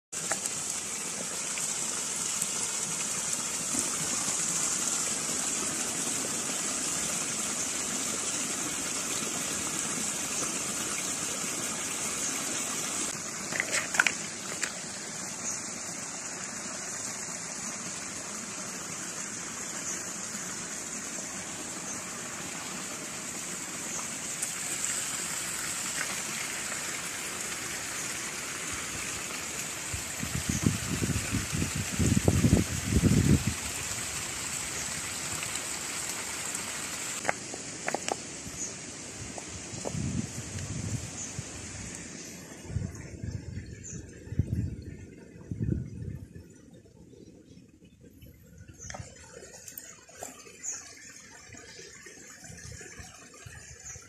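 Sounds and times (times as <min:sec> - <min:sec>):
river flowing over stones: 0:00.1 - 0:44.0, 0:46.7 - 0:54.0.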